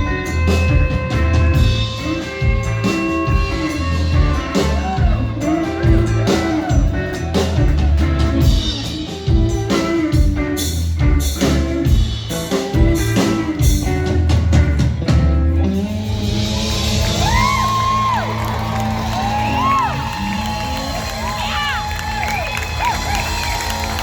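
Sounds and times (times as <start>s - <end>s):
pulsing bass line: 0.0s - 23.5s
drum kit: 0.0s - 24.0s
electric guitar: 0.0s - 24.0s.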